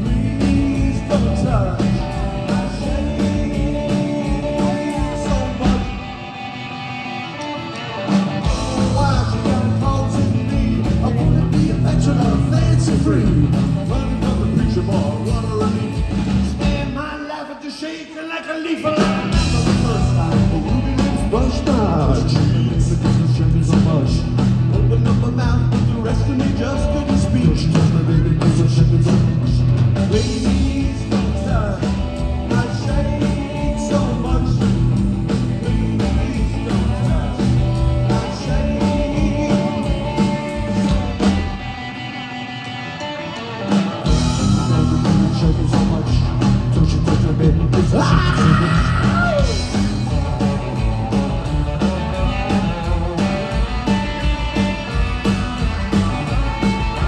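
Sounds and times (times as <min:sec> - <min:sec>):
rock music: 0:00.0 - 0:57.0.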